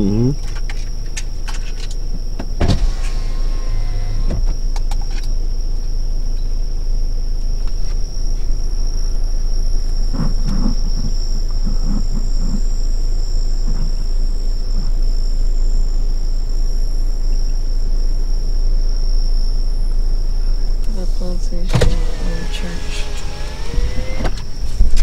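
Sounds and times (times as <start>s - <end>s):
faint low murmur: 0.0s - 0.8s, 3.1s - 23.3s
insects trilling: 0.0s - 25.0s
low rumble: 1.3s - 22.1s.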